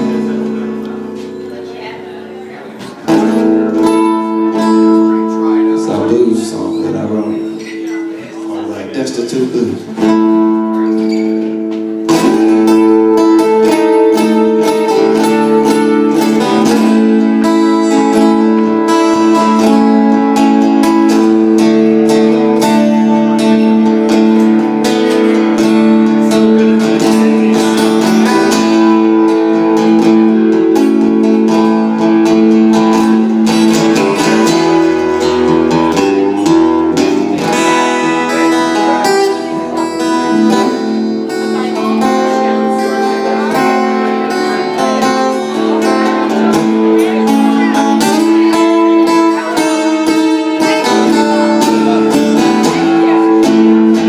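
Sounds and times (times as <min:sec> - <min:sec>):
acoustic guitar blues: 0:00.0 - 0:54.0.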